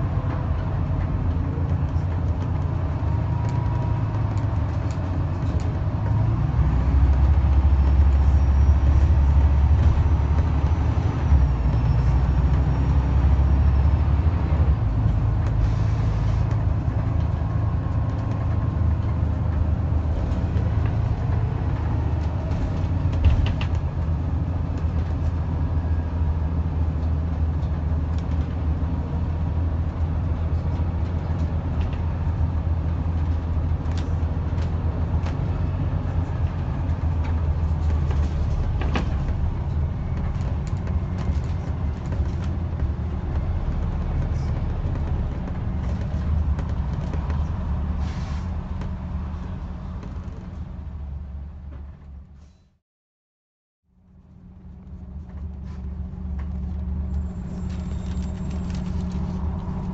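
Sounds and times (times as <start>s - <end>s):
bus body rattles: 0.0s - 52.5s, 54.4s - 59.9s
bus diesel engine rumble: 0.0s - 52.8s, 53.9s - 59.9s.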